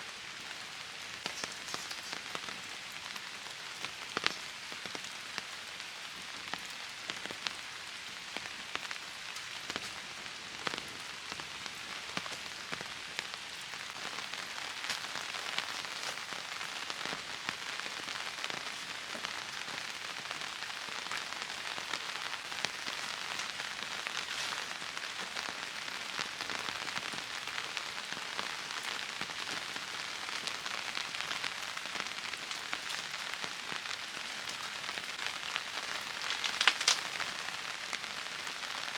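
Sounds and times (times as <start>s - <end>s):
raindrops striking close by: 0.0s - 38.9s
steady rain falling: 0.0s - 38.9s.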